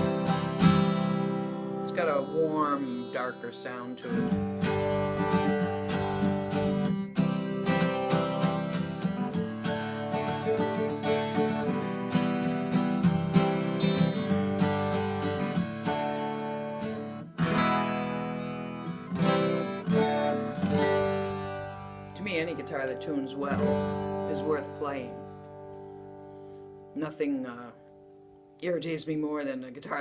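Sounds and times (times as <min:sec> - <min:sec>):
acoustic guitar strumming chords: 0:00.0 - 0:30.0.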